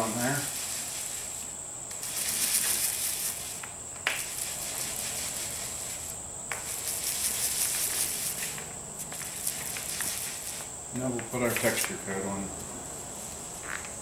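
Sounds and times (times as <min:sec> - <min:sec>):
paint roller crackly hiss: 0:00.0 - 0:14.0.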